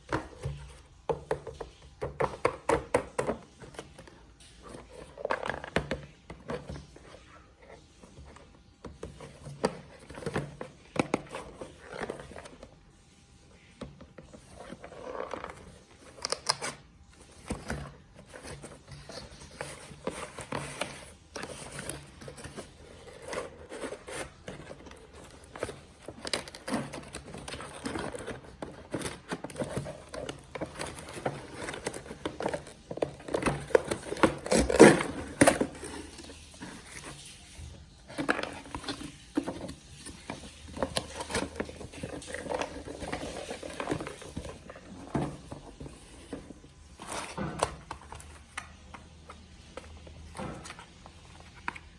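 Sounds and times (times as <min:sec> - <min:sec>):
packaging rustling and scraping: 0:00.0 - 0:51.9.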